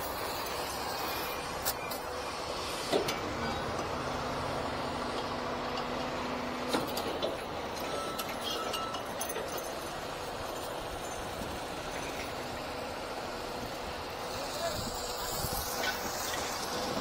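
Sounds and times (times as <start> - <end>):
distant machinery engine: 0.0 - 17.0.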